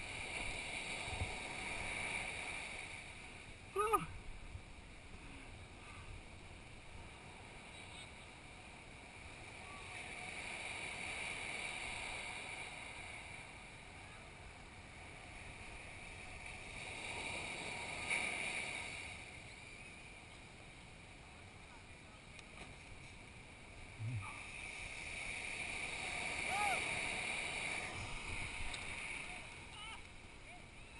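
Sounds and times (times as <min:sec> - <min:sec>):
faint ocean surf: 0:00.0 - 0:30.9.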